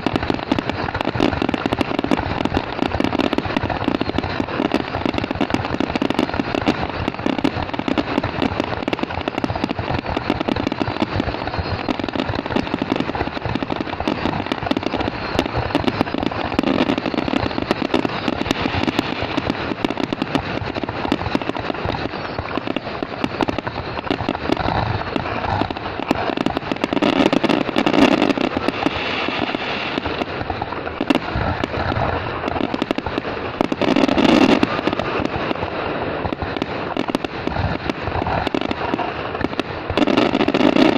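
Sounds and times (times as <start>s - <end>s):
fireworks cracking and popping: 0.0s - 40.9s
fireworks rumble: 0.0s - 40.9s.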